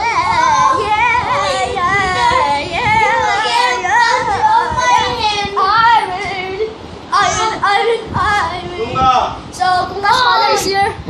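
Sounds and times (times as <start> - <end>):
boy singing loudly: 0.0 - 9.0, 9.6 - 11.0.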